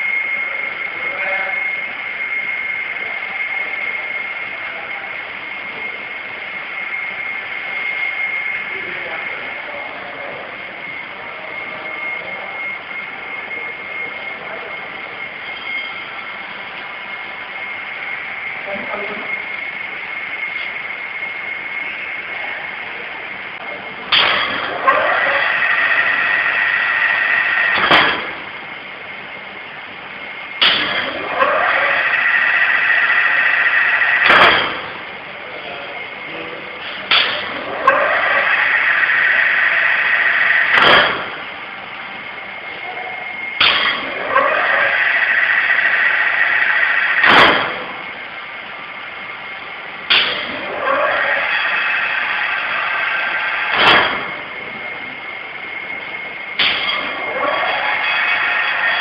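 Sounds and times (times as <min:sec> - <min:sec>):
motor and disc whine: 0:00.0 - 0:59.0.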